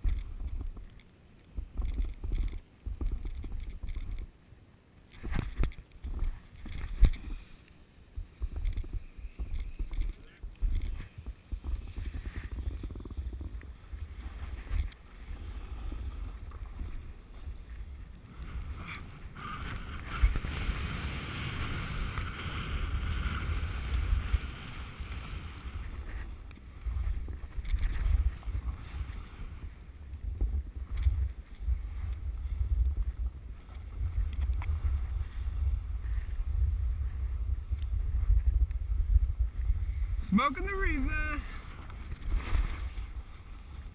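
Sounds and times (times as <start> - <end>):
wind buffeting microphone: 8.0 - 43.9.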